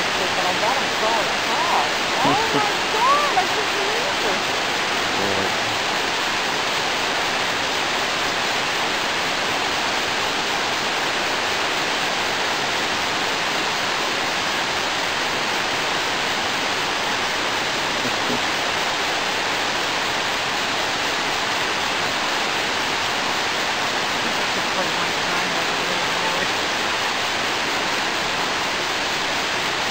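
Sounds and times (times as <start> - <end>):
river rushing: 0.0 - 29.9.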